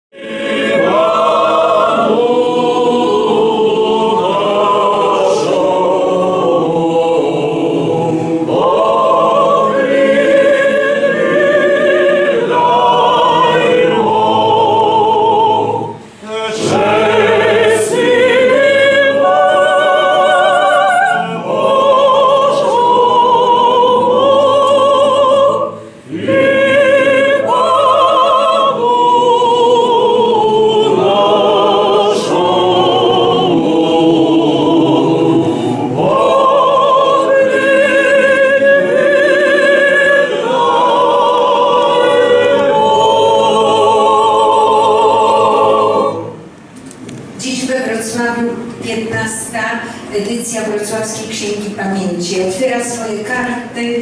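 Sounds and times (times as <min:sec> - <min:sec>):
group singing with vibrato: 0:00.0 - 0:47.4.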